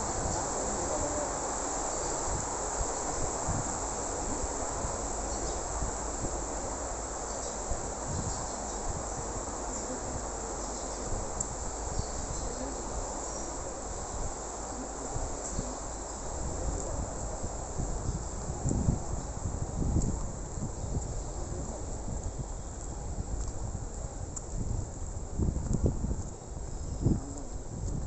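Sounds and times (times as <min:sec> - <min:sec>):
insects chorus: 0:00.0 - 0:28.0.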